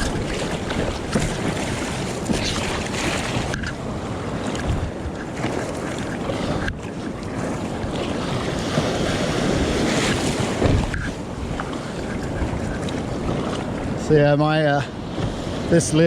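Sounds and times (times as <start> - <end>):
surf breaking: 0.0 - 16.0
water rushing around kayak: 0.0 - 16.0
wind buffeting microphone: 0.0 - 16.0.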